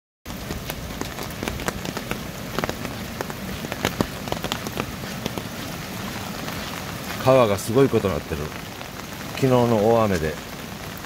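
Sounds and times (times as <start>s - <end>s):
close raindrop hits: 0.3s - 11.0s
heavy rain falling: 0.3s - 11.0s.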